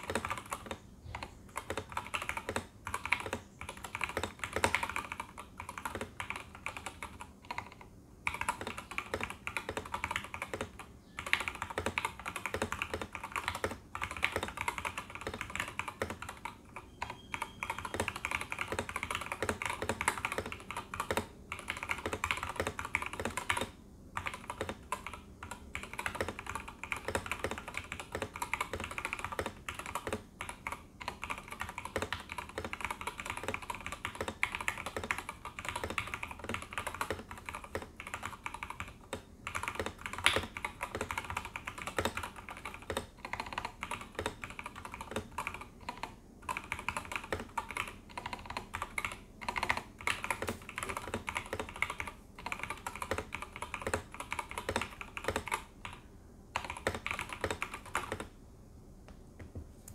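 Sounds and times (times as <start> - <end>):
mechanical keyboard typing: 0.0 - 58.3.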